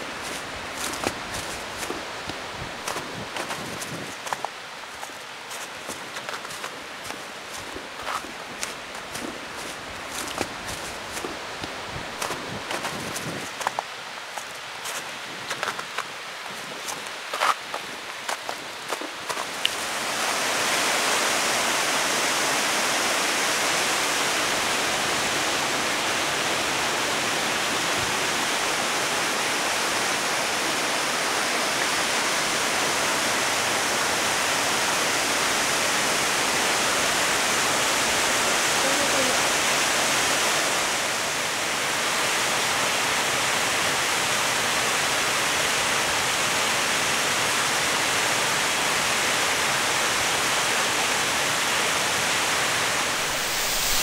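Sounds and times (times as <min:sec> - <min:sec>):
waterfall rushing into pool: 0:00.0 - 0:54.0.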